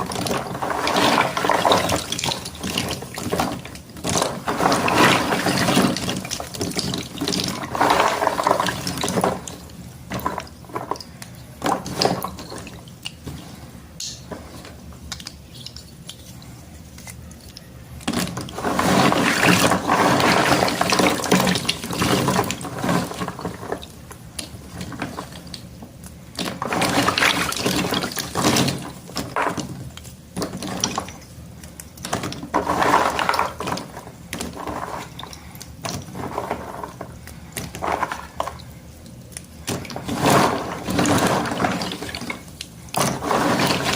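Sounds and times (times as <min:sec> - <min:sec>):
wet chalk crackling and snapping: 0:00.0 - 0:43.9.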